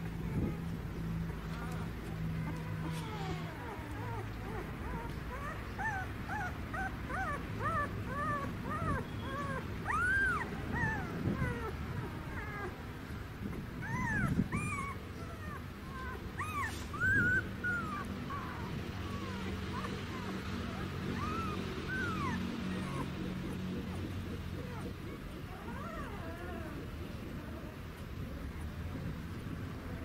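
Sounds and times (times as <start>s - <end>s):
puppy whimpering and yelping: 0.0s - 30.0s.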